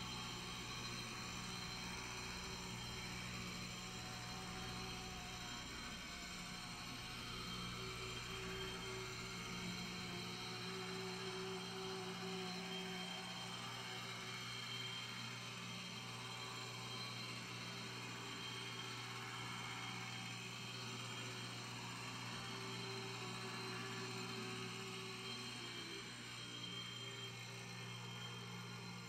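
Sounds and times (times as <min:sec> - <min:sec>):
model train motor whirring: 0:00.0 - 0:29.0.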